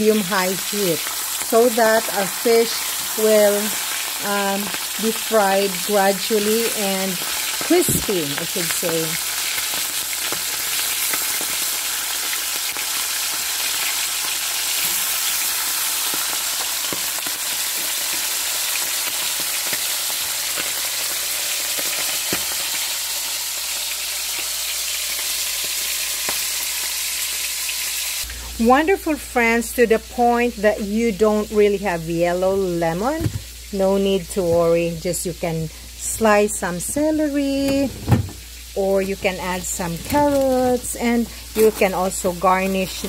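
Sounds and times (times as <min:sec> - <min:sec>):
fish frying in oil: 0:00.0 - 0:28.3, 0:33.0 - 0:43.0.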